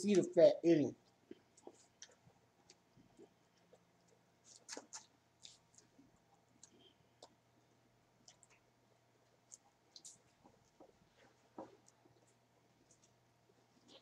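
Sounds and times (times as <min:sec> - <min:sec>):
people chewing food: 0:01.0 - 0:14.0.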